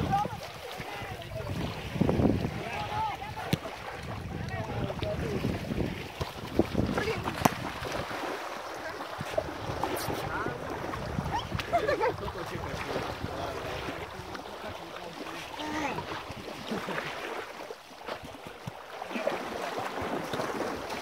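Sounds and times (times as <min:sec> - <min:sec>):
water splashing: 0:00.0 - 0:21.0.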